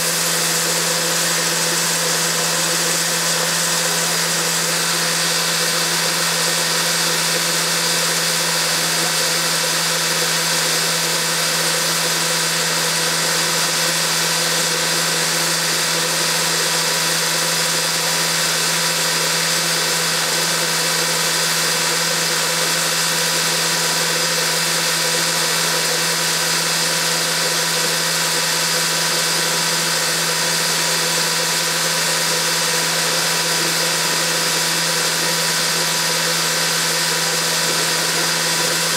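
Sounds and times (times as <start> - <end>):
farm machinery humming: 0.0 - 38.9.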